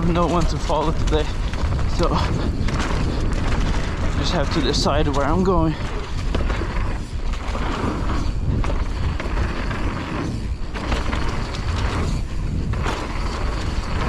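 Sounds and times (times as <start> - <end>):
bike rattling on dirt trail: 0.0 - 14.0
wind buffeting microphone: 0.0 - 14.0.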